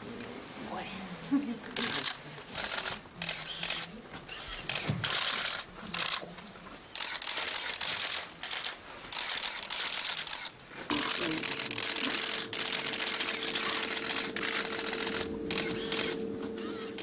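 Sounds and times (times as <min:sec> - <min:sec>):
camera shutters firing in bursts: 0:01.8 - 0:06.2, 0:06.9 - 0:17.0.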